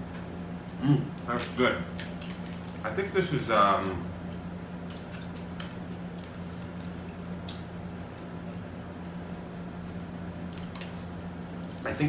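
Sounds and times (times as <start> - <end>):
steady low hum: 0.0 - 12.0
person chewing fries: 1.0 - 3.1, 4.4 - 12.0.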